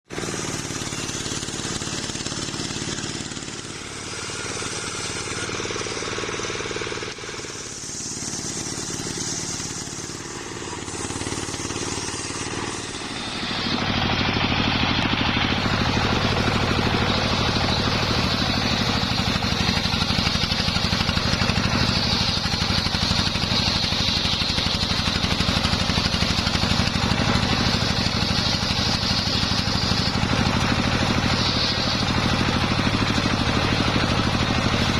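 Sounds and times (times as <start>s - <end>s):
engine-driven circular saw running: 0.0s - 34.9s
saw blade ripping through wood: 0.1s - 34.9s.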